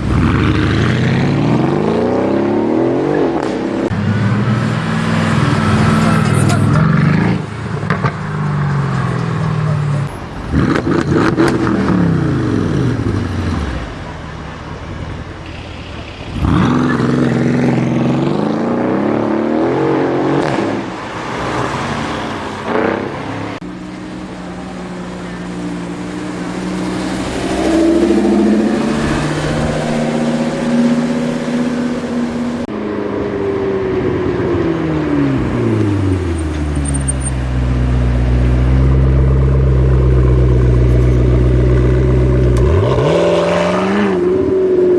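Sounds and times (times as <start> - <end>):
sports car engines revving: 0.0 - 44.9.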